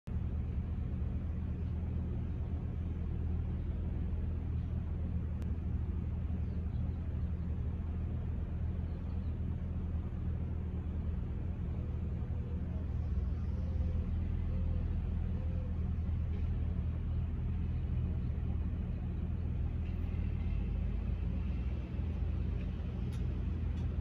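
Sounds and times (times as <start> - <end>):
street ambience rumble: 0.1 - 24.0.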